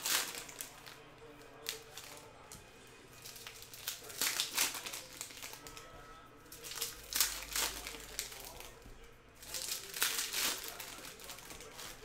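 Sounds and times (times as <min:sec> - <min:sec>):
foil wrapper crinkling: 0:00.0 - 0:02.3, 0:03.2 - 0:05.9, 0:06.5 - 0:08.8, 0:09.4 - 0:12.0.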